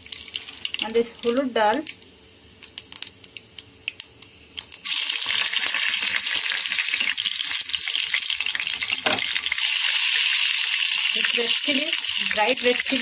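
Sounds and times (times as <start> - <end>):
seeds sizzling in hot oil: 0.0 - 13.0.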